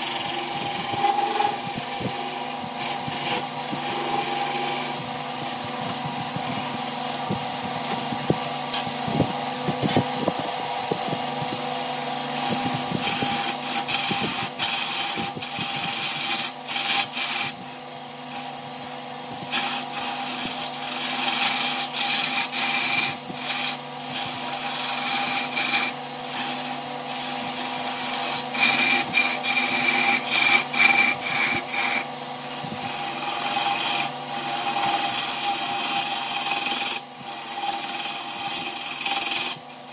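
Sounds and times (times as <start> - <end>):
gouge scraping spinning wood: 0.0 - 39.9
wood lathe motor hum: 0.0 - 39.9.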